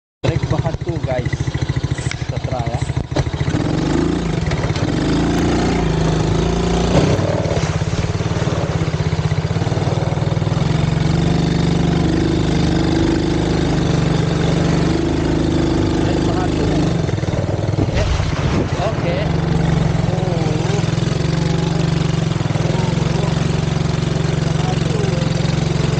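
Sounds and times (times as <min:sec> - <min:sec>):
atv engine running: 0:00.2 - 0:25.9.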